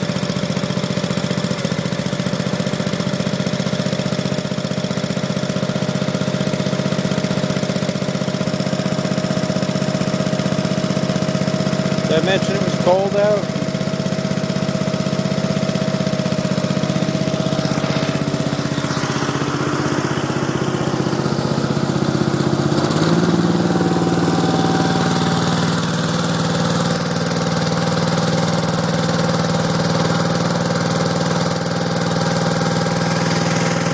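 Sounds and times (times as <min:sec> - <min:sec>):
garden tractor engine running: 0:00.0 - 0:33.9.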